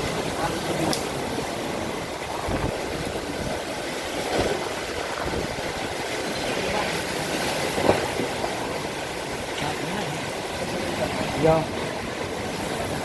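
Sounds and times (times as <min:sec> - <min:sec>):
heavy rain: 0:00.0 - 0:13.0
wind gusts rumbling on microphone: 0:00.0 - 0:13.0.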